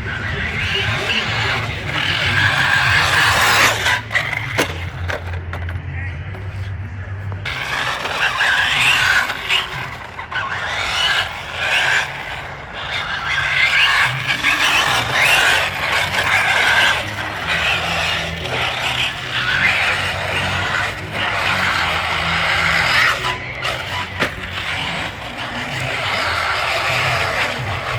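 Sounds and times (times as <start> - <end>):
toy car electric motor whining: 0.0 - 5.7, 7.4 - 27.9.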